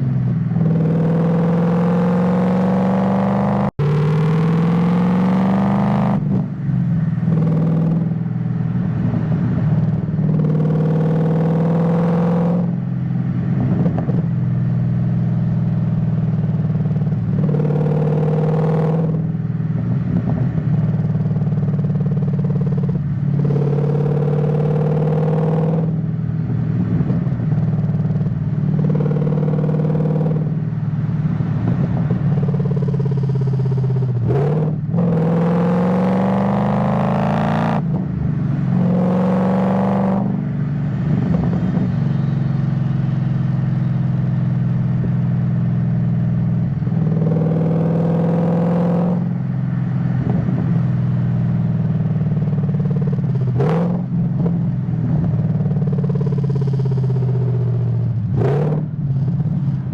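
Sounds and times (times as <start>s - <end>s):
car engine exhaust while driving: 0.0s - 59.9s.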